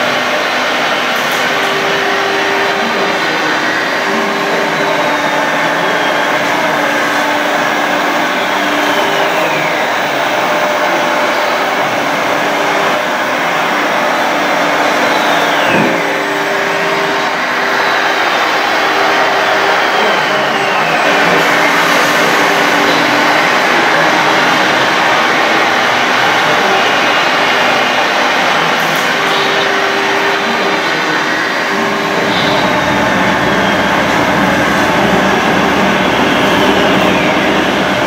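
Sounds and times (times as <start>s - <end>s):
electric pump and motors whirring: 0.0s - 38.0s
falling whines: 0.0s - 38.0s.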